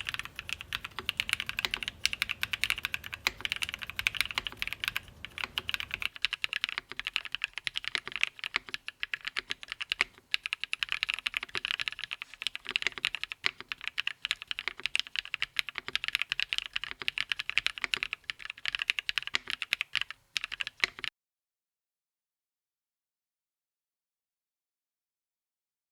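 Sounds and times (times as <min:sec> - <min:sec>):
fast mechanical keyboard typing: 0:00.0 - 0:21.1.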